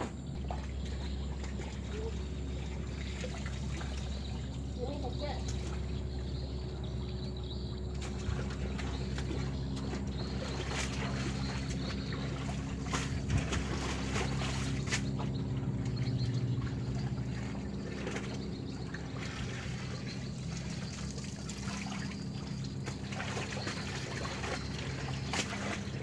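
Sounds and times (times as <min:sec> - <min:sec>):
water splashes: 0:00.0 - 0:06.4, 0:07.9 - 0:26.0
river water lapping: 0:00.0 - 0:26.0
steady low hum: 0:00.0 - 0:26.0.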